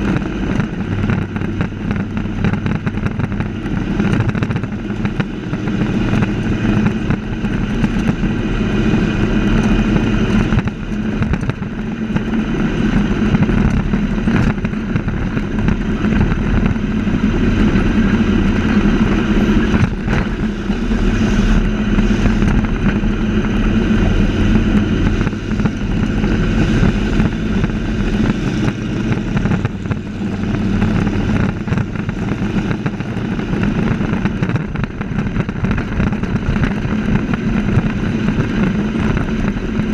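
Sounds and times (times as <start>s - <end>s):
race truck engines at speed: 0.0s - 39.9s.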